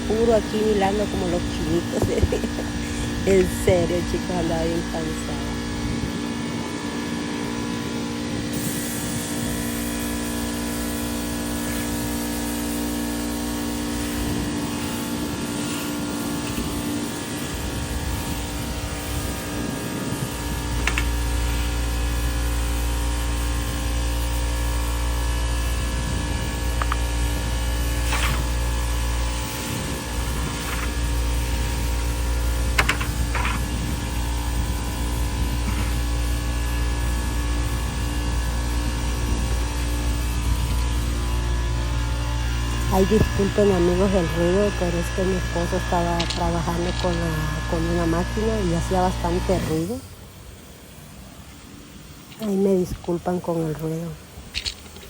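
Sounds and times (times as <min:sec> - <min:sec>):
machine motor humming drone: 0:00.0 - 0:55.0.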